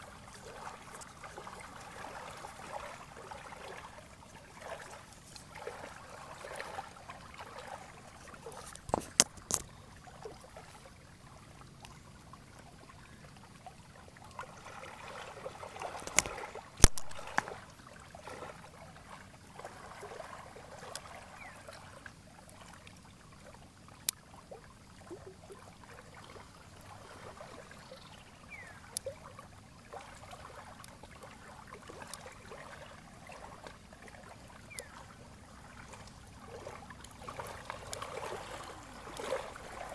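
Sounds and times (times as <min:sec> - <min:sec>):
water lapping at shore: 0:00.0 - 0:39.9.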